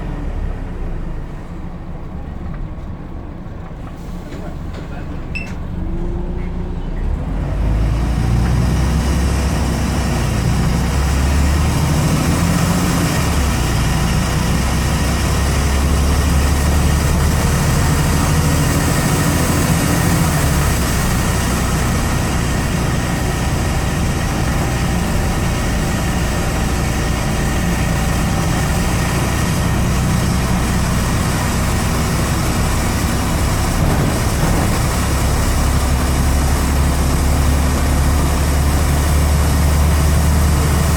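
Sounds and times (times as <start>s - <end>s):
bus diesel engine drone: 0.0s - 40.9s.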